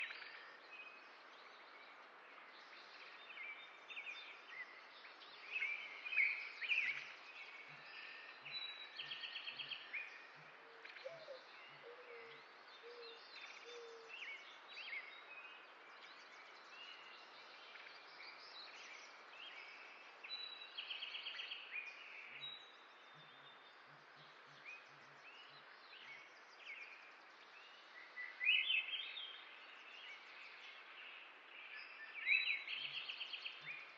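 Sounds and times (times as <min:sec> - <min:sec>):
songbirds chirping: 0:00.0 - 0:33.9
steady outdoor hiss: 0:00.0 - 0:33.9.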